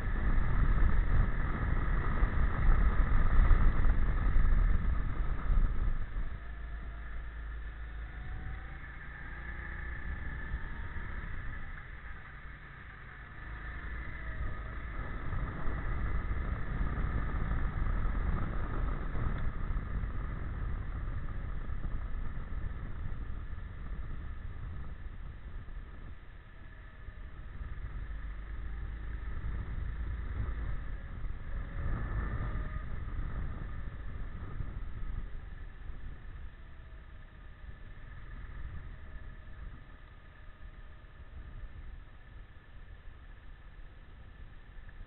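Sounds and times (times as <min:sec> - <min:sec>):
go-kart engine at speed: 0:00.0 - 0:45.0
wind rumble on microphone: 0:00.0 - 0:45.0.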